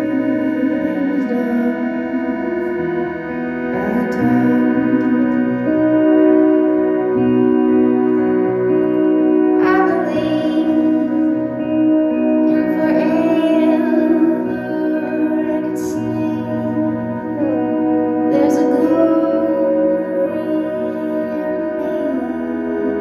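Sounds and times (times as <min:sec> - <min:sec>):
electric and acoustic guitar chords: 0:00.0 - 0:23.0
held drone: 0:00.0 - 0:23.0.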